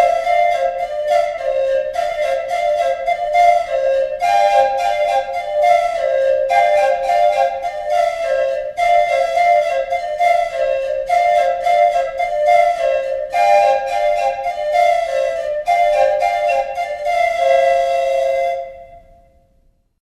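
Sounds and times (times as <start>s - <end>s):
wooden pipes playing held notes: 0.0s - 19.3s.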